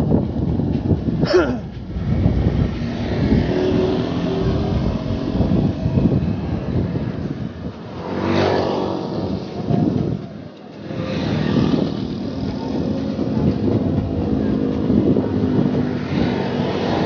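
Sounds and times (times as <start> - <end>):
road traffic hum: 0.0 - 17.0
loud vehicle passing: 1.6 - 17.0.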